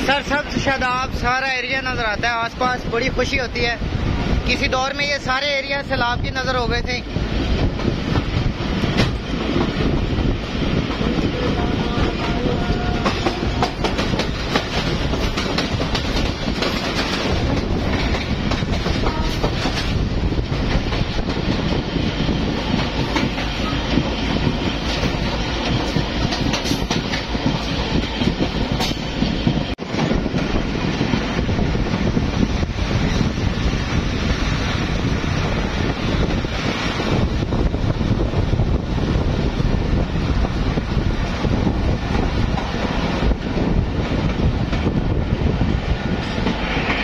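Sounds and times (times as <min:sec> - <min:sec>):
train rumble and rush: 0:00.0 - 0:47.0.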